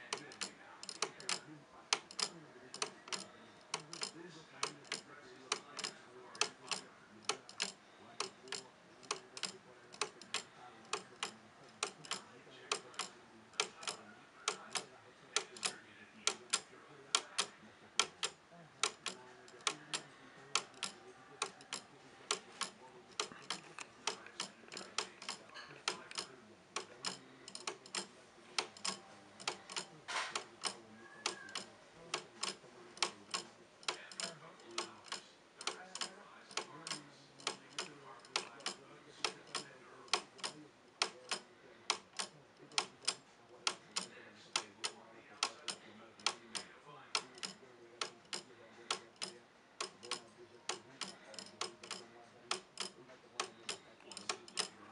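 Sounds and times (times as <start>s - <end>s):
pendulum clock ticking: 0.0s - 54.8s.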